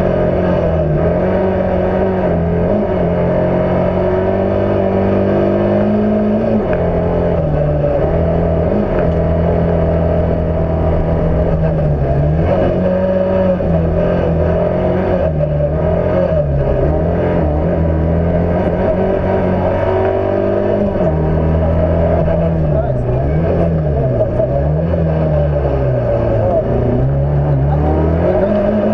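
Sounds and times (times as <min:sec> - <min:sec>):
car engine accelerating and lifting: 0:00.0 - 0:28.9.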